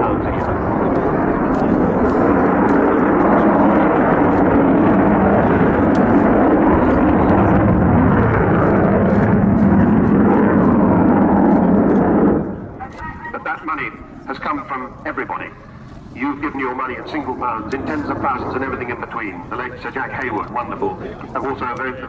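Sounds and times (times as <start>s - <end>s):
jet aircraft engines roaring: 0.0s - 22.0s.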